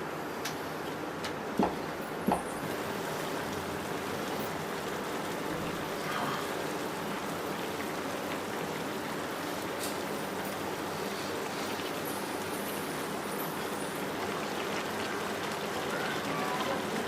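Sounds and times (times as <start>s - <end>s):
food sizzling in a pan: 2.4s - 17.0s.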